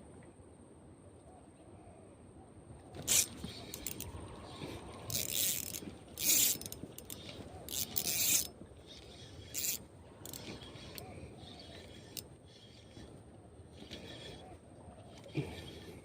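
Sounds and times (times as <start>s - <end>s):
fishing reel ratcheting: 3.0s - 16.0s.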